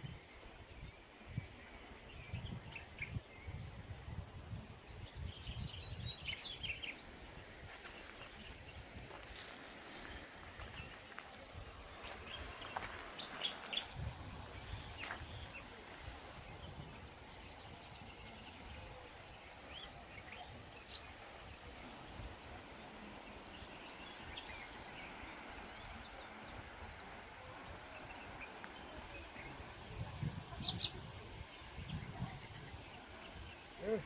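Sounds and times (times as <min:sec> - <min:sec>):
small birds chirping: 0:00.2 - 0:34.0.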